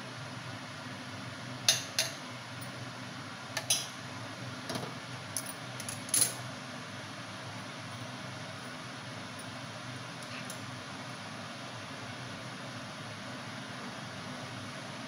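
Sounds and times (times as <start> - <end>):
kitchen fan humming: 0.0 - 15.0.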